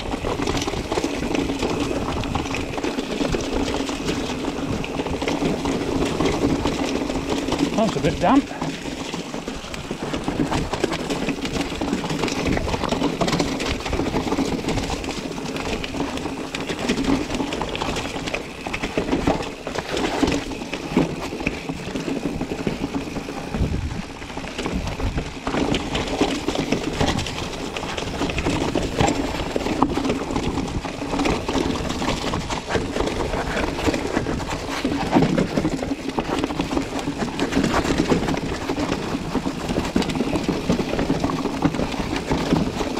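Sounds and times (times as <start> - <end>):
bike hum over rough ground: 0.0 - 42.9
bike knocks and rattles: 0.0 - 42.9.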